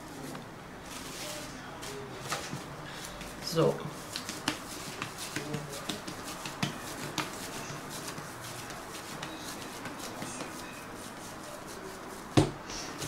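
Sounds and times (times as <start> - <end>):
hands patting dough: 0.9 - 13.0.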